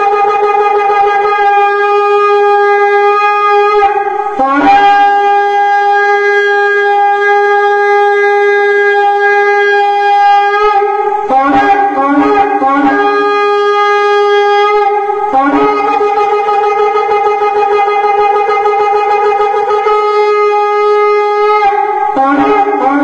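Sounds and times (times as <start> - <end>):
ram's horn blasts: 0.0 - 23.0.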